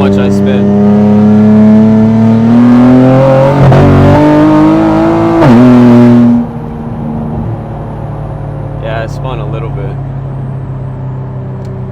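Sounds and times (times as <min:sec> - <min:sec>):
car engine accelerating hard: 0:00.0 - 0:11.9.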